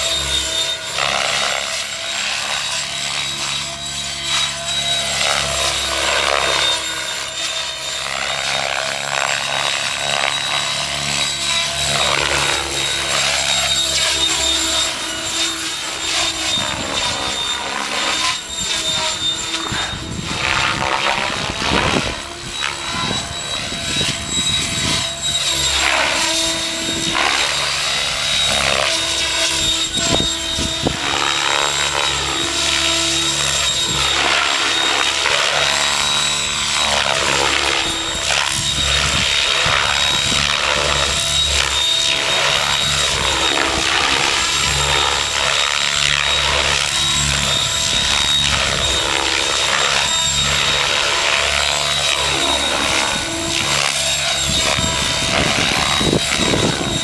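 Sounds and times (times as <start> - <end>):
helicopter rotor whooshing: 0.0 - 57.0
high electric motor whine: 0.0 - 57.0.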